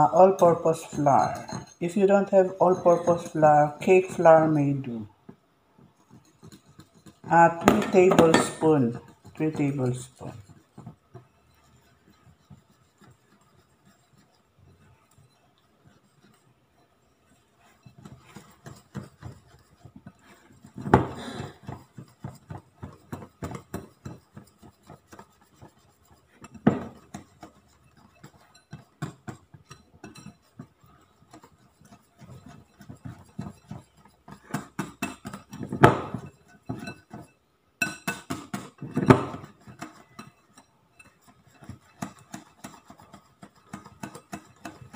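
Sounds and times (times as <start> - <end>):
whisk knocking on bowl: 0.0 - 4.8, 6.0 - 44.9
whisk clicking against bowl: 6.0 - 20.9, 21.6 - 44.9.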